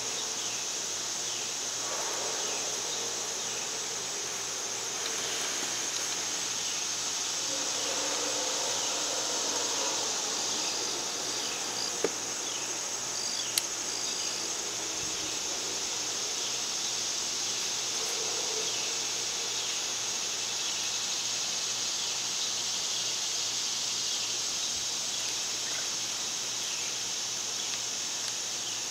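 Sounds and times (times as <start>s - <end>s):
insects chorus: 0.0s - 28.9s.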